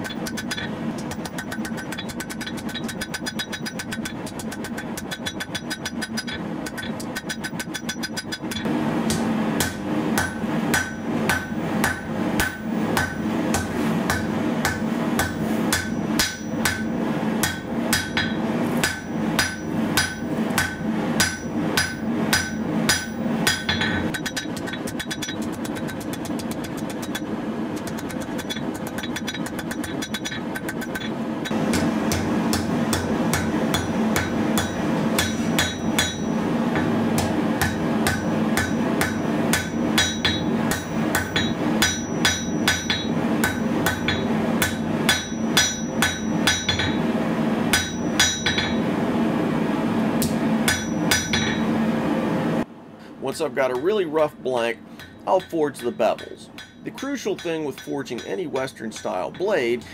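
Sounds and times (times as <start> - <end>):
hammer striking metal on anvil: 0.0 - 47.1, 47.7 - 48.8, 50.2 - 51.8, 53.7 - 54.2, 55.0 - 59.9.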